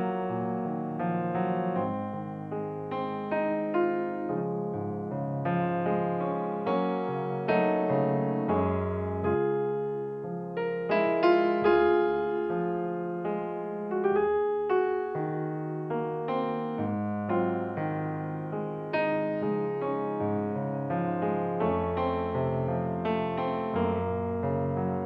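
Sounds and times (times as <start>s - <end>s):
gentle piano melody: 0.0s - 25.0s.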